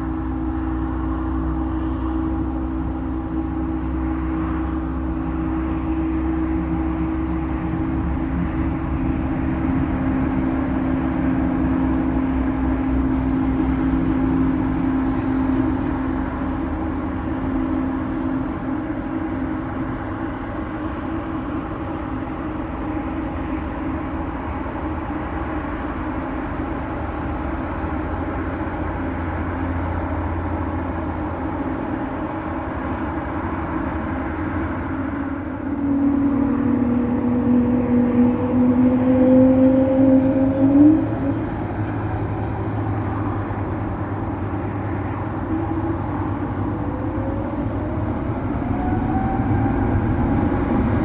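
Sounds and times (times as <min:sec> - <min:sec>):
jet engines idling: 0:00.0 - 0:39.0, 0:40.5 - 0:51.0
low rumble: 0:00.0 - 0:51.0.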